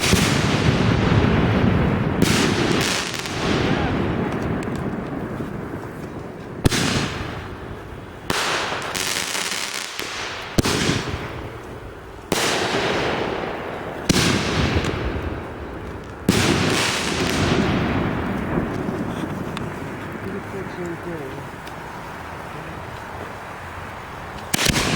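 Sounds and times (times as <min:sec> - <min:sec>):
fireworks bangs: 0:00.0 - 0:24.9
fireworks hiss: 0:00.0 - 0:24.9.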